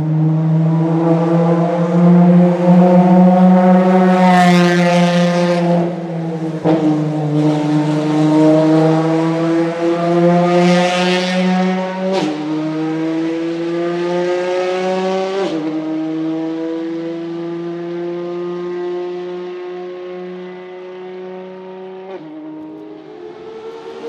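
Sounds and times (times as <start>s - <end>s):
car engine accelerating with upshifts: 0.0s - 24.0s.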